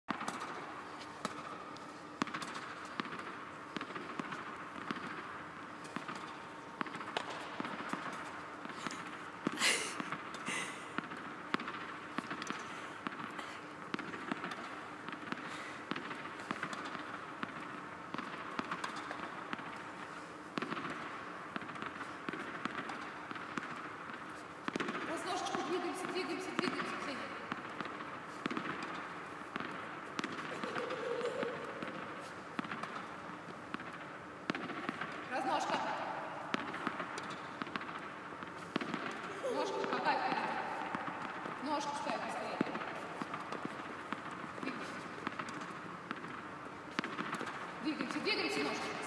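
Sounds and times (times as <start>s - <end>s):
steady background hum: 0.1s - 49.0s
tennis balls struck by racket: 0.1s - 49.0s.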